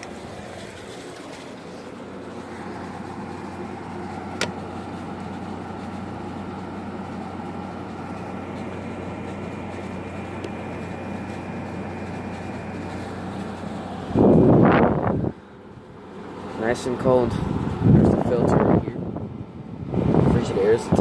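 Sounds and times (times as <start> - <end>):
air conditioner fan rush: 0.0 - 21.0
compressor hum: 0.0 - 21.0.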